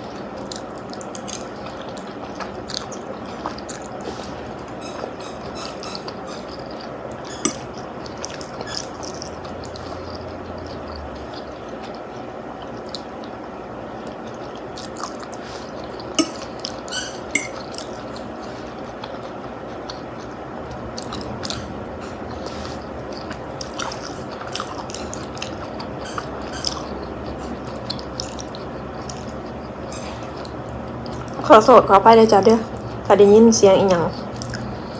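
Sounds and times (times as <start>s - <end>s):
chewing food: 0.0s - 34.9s.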